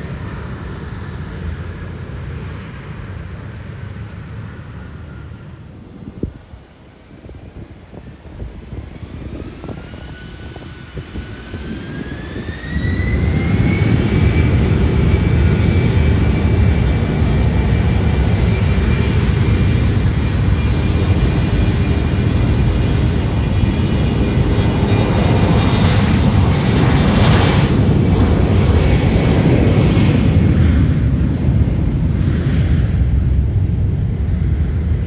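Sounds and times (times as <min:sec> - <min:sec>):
jet engine low rumble: 0:00.0 - 0:35.0
jet engine whine: 0:00.0 - 0:35.0.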